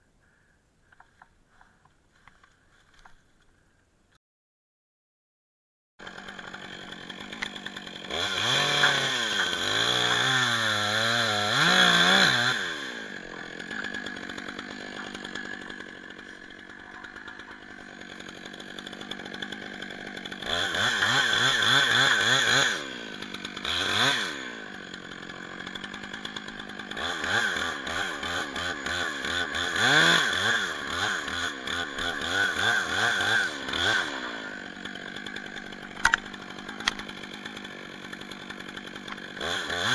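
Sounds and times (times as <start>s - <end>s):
chainsaw cutting wood: 6.0s - 39.9s
chainsaw idling: 6.0s - 39.9s.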